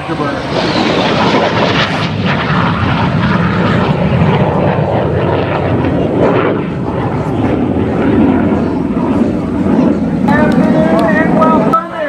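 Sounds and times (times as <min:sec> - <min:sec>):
military jet flying past: 0:00.0 - 0:12.0.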